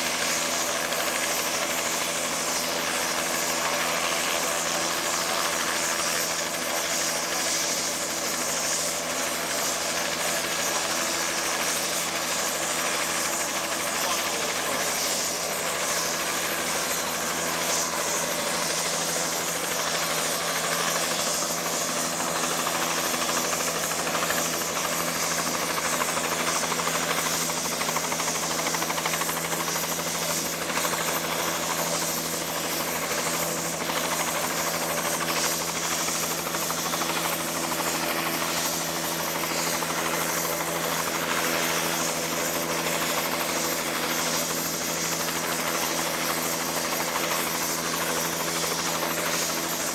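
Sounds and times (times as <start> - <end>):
helicopter engine whine: 0.0 - 49.9
helicopter rotor rush: 0.0 - 49.9.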